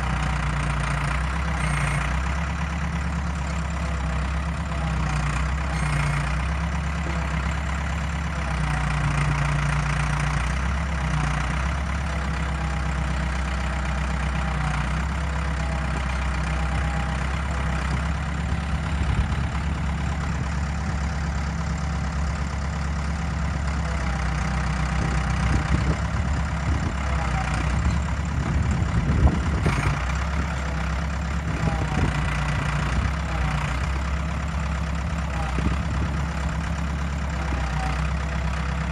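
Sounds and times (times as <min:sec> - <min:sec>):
backhoe loader engine running: 0:00.0 - 0:38.9.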